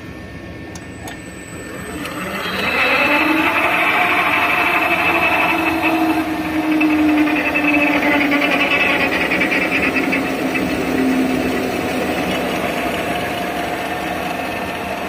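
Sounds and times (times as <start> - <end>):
machine motors and rollers whining: 0.0 - 15.0.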